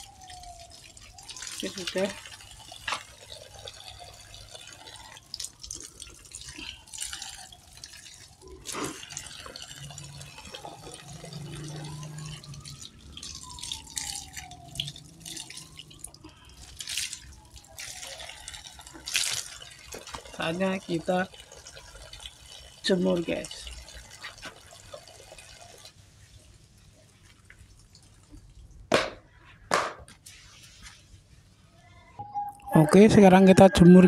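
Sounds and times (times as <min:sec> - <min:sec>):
hose water splashing on ground: 0:00.0 - 0:29.1.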